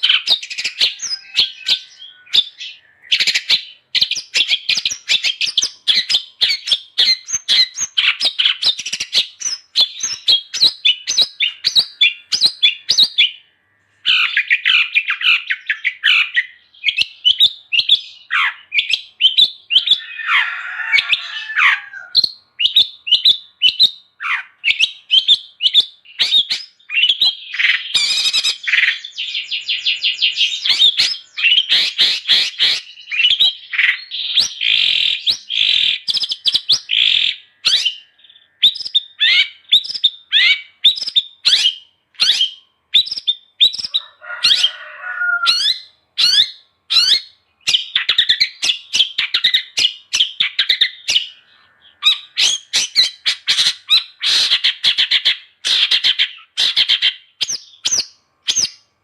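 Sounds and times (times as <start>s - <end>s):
bird singing rapid chirps: 0.0s - 59.0s.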